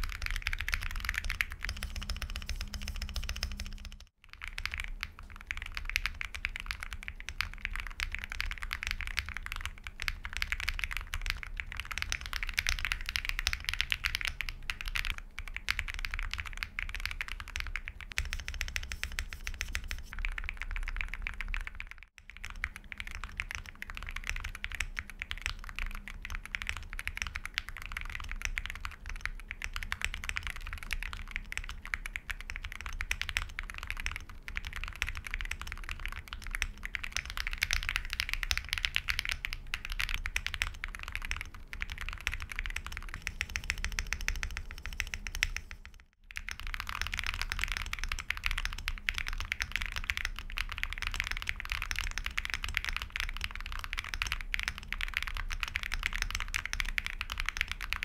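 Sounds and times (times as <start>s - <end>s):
fast keyboard typing clacks: 0.0s - 58.0s.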